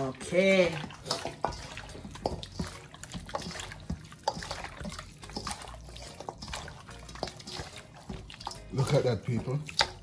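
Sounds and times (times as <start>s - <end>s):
liquid dripping and trickling: 0.0s - 10.0s.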